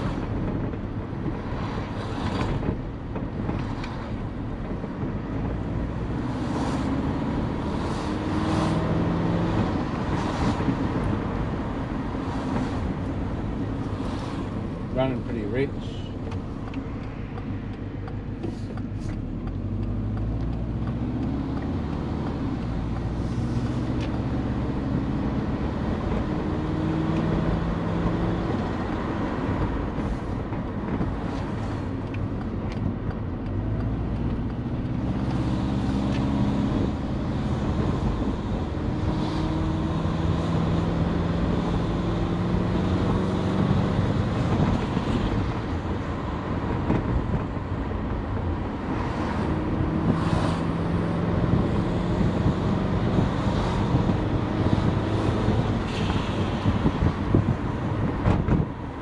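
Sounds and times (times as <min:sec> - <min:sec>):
car engine accelerating: 0:00.0 - 0:59.0
road noise: 0:00.0 - 0:59.0.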